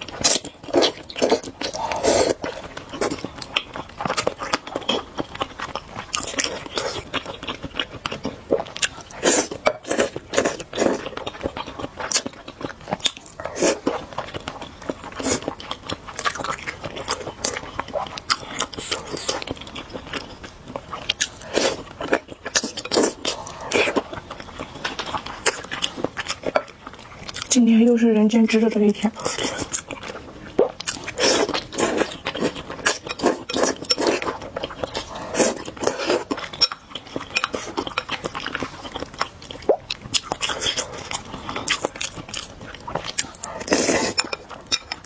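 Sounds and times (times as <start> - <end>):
wet chewing and biting: 0.0 - 27.5, 29.2 - 45.0.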